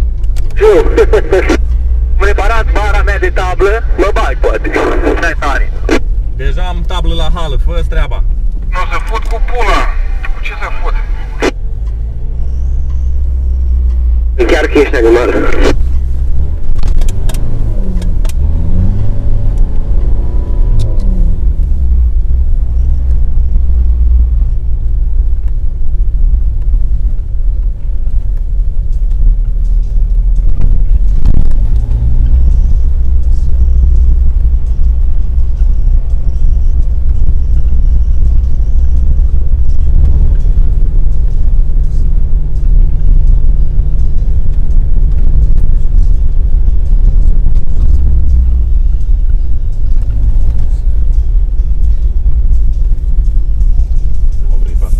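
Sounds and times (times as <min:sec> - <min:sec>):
off-road vehicle engine rumbling: 0:00.0 - 0:54.9.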